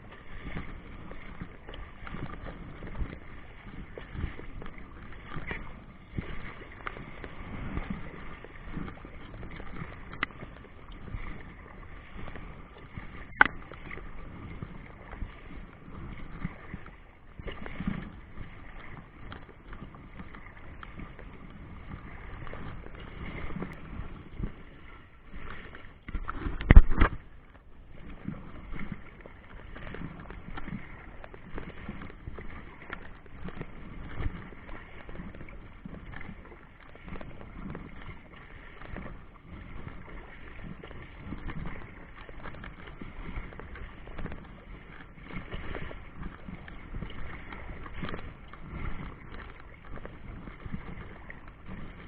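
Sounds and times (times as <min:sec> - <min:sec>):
river water lapping: 0:00.0 - 0:52.0.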